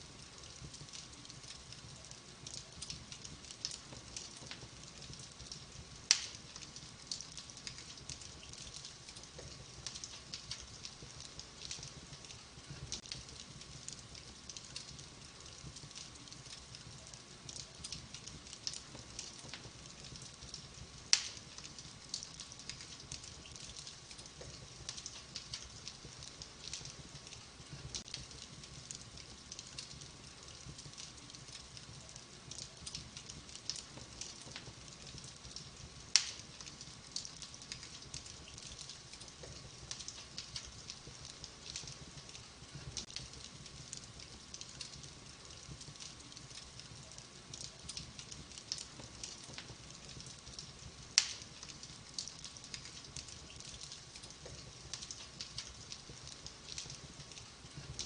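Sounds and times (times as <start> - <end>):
small fire crackles: 0.0 - 58.0.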